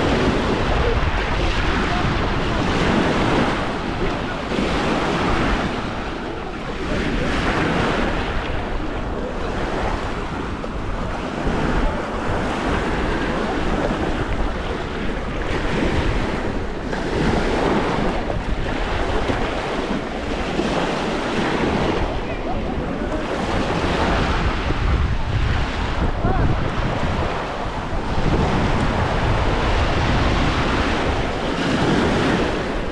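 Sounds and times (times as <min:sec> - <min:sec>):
surf washing onto beach: 0:00.0 - 0:32.9
wind buffeting microphone: 0:00.0 - 0:32.9.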